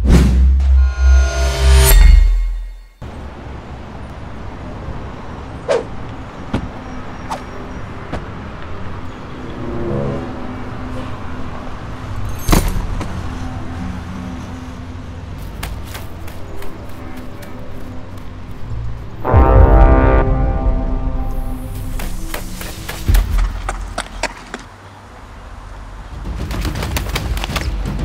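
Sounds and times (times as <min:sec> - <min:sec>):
motor vehicle rumble: 0:03.0 - 0:28.0.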